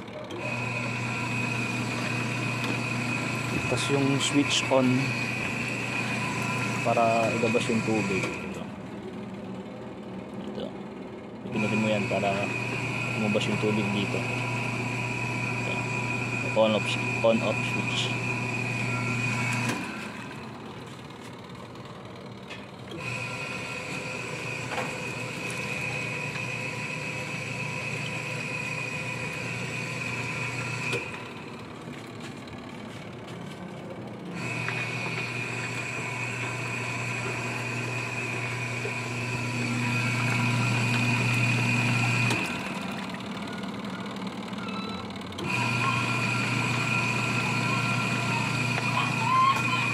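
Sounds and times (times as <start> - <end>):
washing machine motor whining: 0.0 - 49.9.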